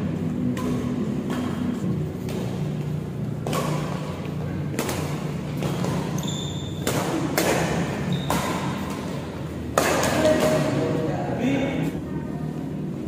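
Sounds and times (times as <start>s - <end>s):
steady low hum: 0.0s - 13.0s
badminton racket hits: 0.3s - 11.1s.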